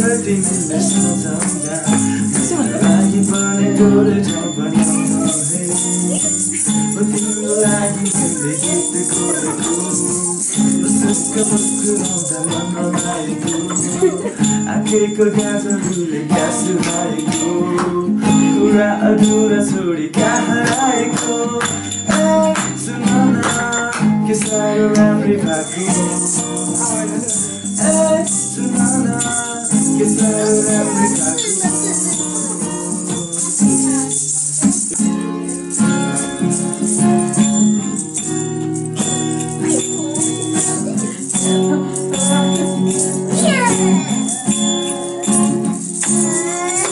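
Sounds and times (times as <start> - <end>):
acoustic guitar strumming: 0.0 - 46.9
shaker rattling: 0.0 - 46.9
young man singing: 0.0 - 46.9.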